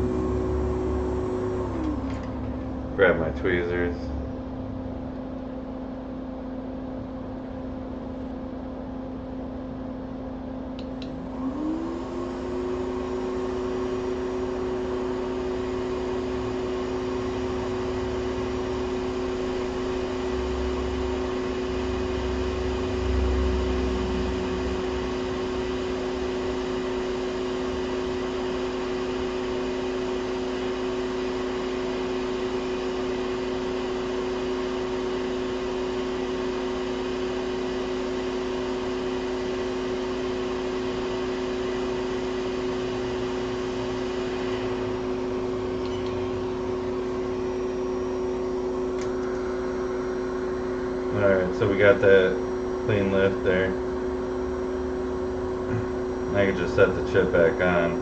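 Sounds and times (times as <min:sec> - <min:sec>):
constant equipment hum: 0:00.0 - 0:58.0
hot air station fan whine: 0:00.0 - 0:58.0.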